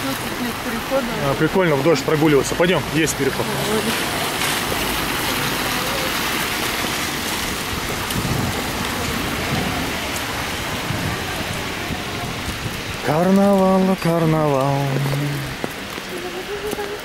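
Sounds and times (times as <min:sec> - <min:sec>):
heavy rain on a paved street: 0:00.0 - 0:17.0.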